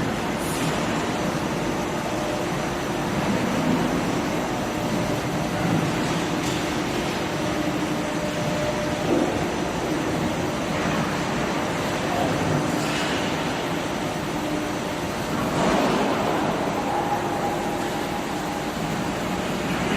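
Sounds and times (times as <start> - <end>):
steady mechanical noise: 0.0 - 19.9.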